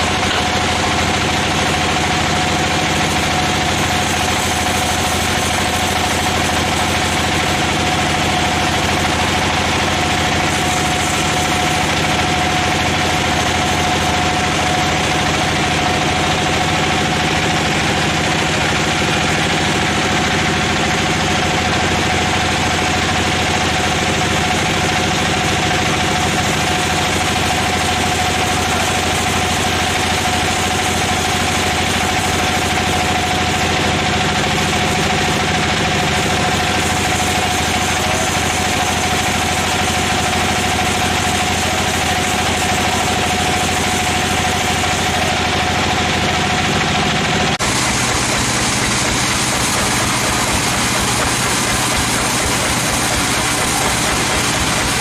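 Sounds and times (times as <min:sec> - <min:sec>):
constant machine tone: 0:00.0 - 0:55.0
sawmill machinery drone: 0:00.0 - 0:55.0.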